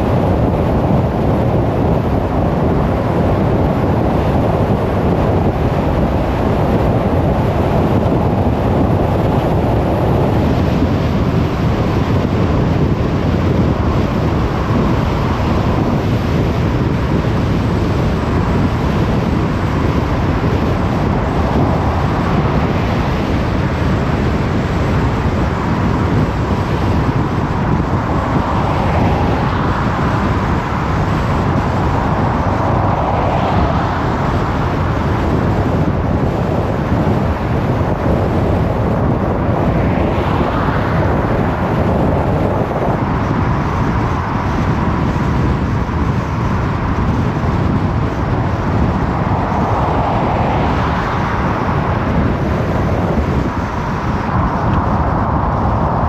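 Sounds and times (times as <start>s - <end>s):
car tyre road noise: 0.0s - 56.0s
wind noise: 0.0s - 56.0s.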